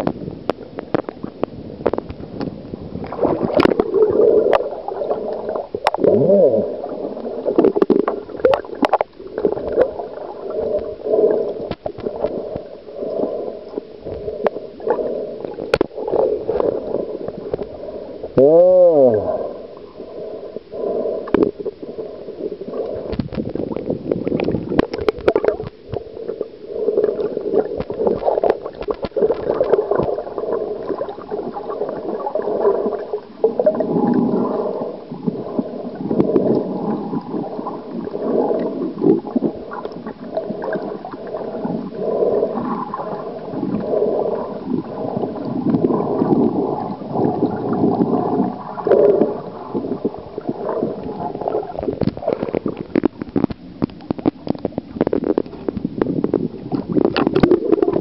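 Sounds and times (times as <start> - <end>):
underwater gurgling and sloshing: 0.0 - 58.0.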